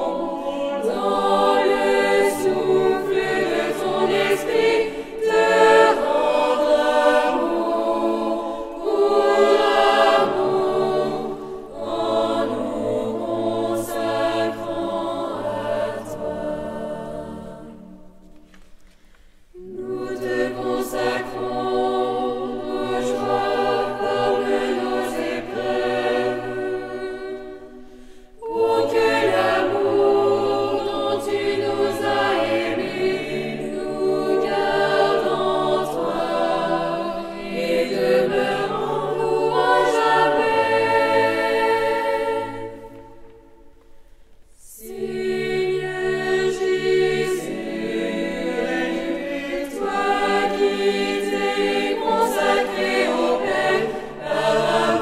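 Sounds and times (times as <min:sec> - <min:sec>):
mixed choir singing a cappella: 0:00.0 - 0:18.4, 0:19.4 - 0:55.0.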